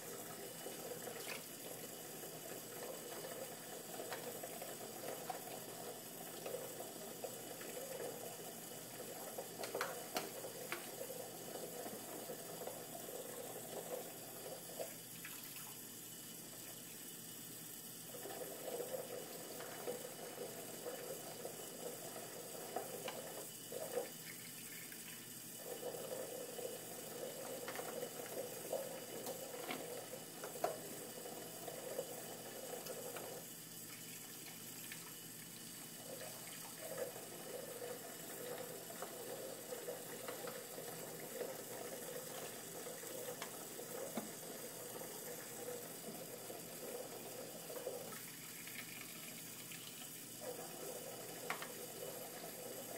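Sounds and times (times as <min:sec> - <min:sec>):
faucet running into a sink: 0:00.0 - 0:52.9.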